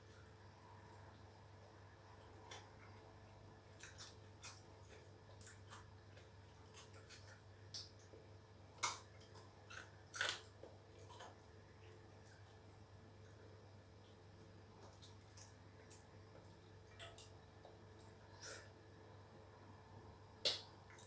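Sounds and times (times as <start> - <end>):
faint steady hum: 0.0 - 21.0
chewing and mouth smacks: 1.0 - 8.2, 8.8 - 18.5.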